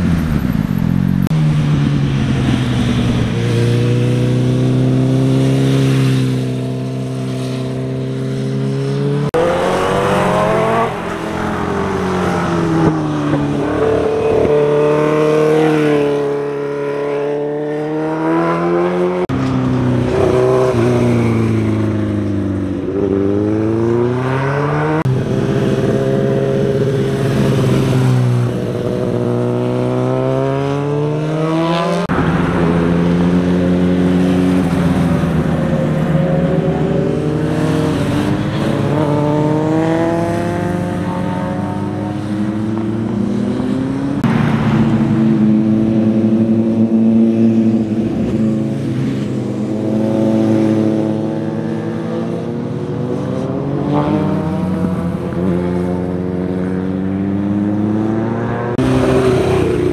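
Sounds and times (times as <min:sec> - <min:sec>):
motorcycle engines passing: 0:00.0 - 0:59.9.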